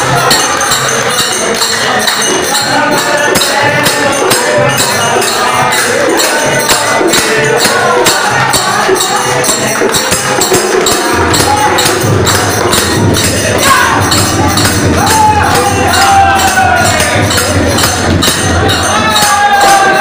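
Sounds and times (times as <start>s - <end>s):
jingling hand percussion: 0.0s - 20.0s
person singing: 0.0s - 20.0s.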